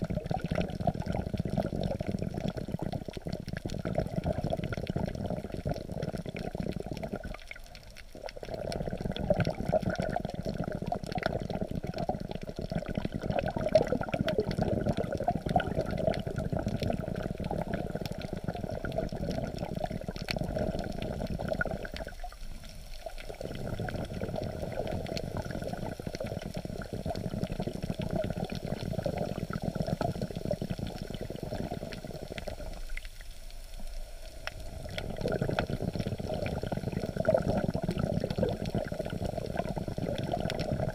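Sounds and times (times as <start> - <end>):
muffled underwater sloshing and crackling: 0.0 - 40.9.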